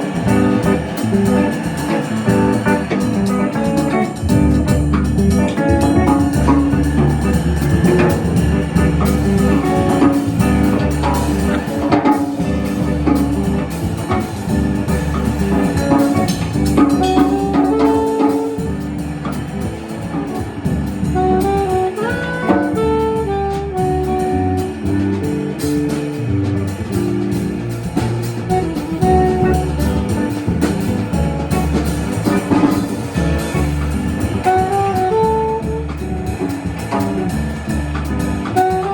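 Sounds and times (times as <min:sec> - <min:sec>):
horn melody: 0:00.0 - 0:38.9
jazz band playing: 0:00.0 - 0:38.9.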